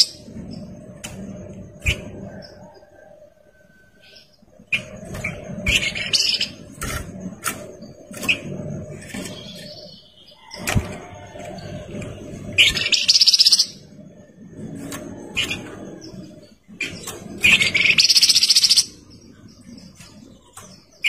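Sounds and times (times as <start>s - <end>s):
bird chirping and trilling: 0.0s - 0.9s, 3.8s - 21.0s
low background rumble: 0.0s - 21.0s.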